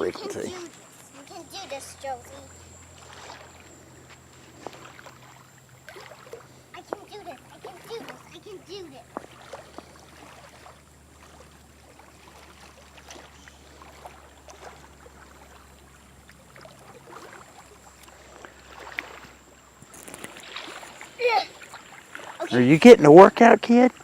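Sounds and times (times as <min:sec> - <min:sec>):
water lapping at rocky shore: 0:00.0 - 0:24.0.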